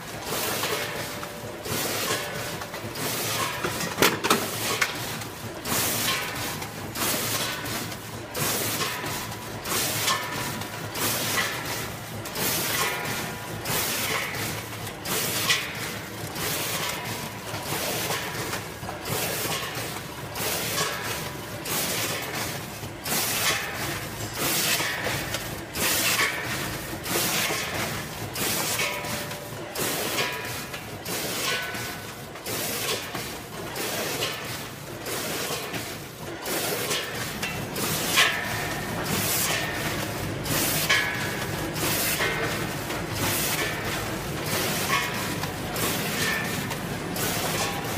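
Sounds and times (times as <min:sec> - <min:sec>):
packing machine running: 0:00.0 - 0:47.9.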